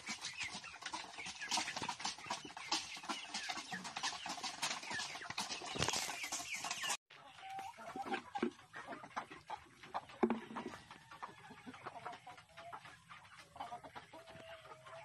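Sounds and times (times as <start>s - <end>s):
beaks pecking and feet scratching: 0.0s - 15.0s
chickens clucking: 0.0s - 15.0s.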